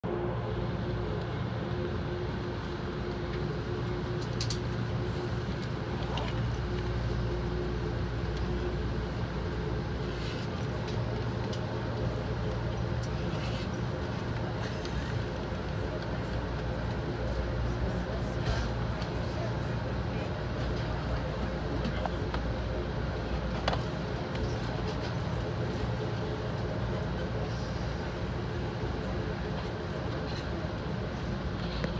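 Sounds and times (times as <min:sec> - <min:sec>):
steady hum: 0:00.0 - 0:31.9.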